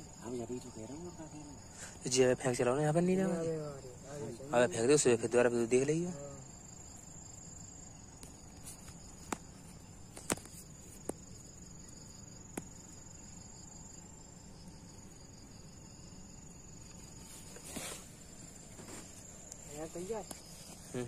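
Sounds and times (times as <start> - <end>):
insect chirring: 0.0 - 21.0.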